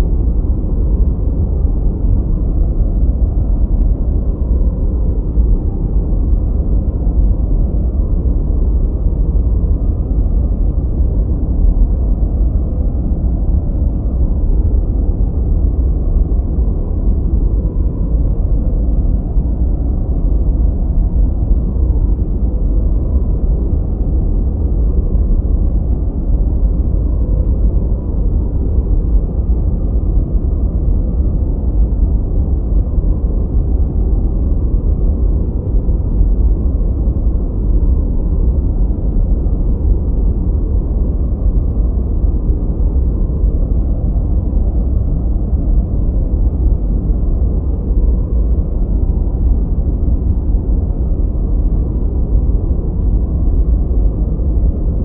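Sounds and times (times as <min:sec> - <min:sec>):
muffled deep noise: 0:00.0 - 0:55.0.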